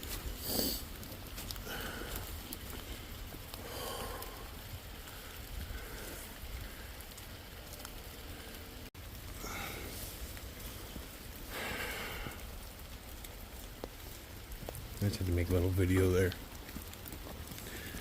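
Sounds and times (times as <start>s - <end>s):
rain falling in forest: 0.0s - 18.0s.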